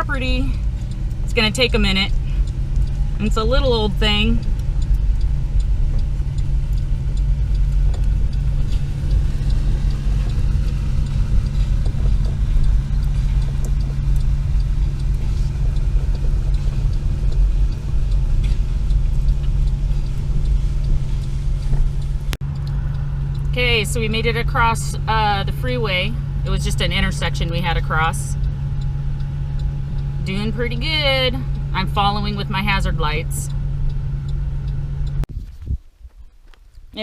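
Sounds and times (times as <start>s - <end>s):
hazard-light flasher ticking: 0.0s - 35.3s
car engine and road rumble: 0.0s - 37.0s.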